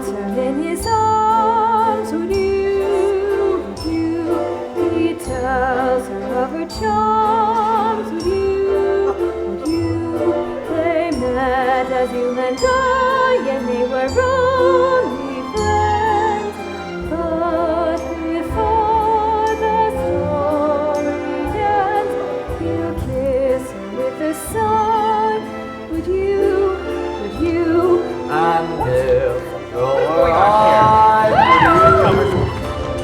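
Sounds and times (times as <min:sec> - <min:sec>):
pit orchestra: 0:00.0 - 0:33.0
woman singing operatic ballad: 0:00.0 - 0:33.0.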